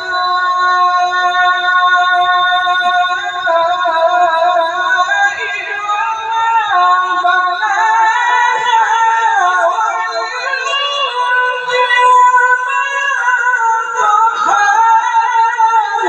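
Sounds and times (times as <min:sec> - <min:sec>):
man chanting in high voice: 0:00.0 - 0:16.0.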